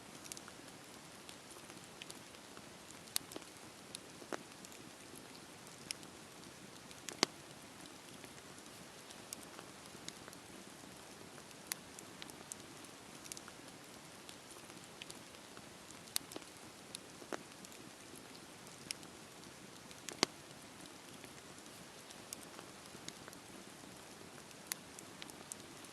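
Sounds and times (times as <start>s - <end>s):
campfire hiss: 0.0s - 25.9s
wood crackling and popping: 0.0s - 25.9s.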